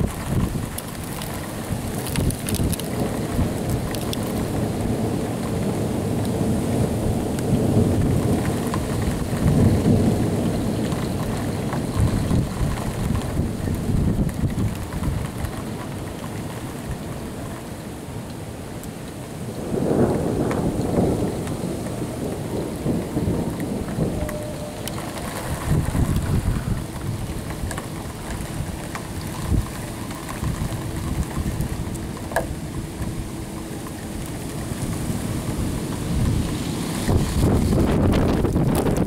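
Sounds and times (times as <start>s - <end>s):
thunder rumbling: 0.0s - 17.7s, 19.2s - 39.0s.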